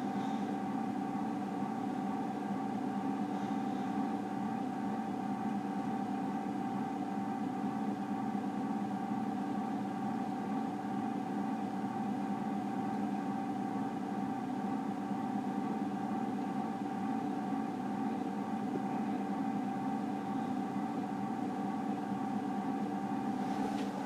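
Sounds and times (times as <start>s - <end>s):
ceiling fan motor hum: 0.0s - 24.0s
thin steady whine: 0.0s - 24.0s.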